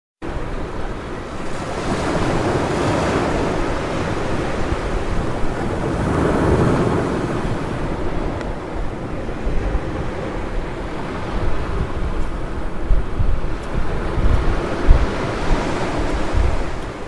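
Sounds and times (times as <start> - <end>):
ocean surf breaking: 0.2 - 17.0
wind rumbling on microphone: 0.2 - 17.0.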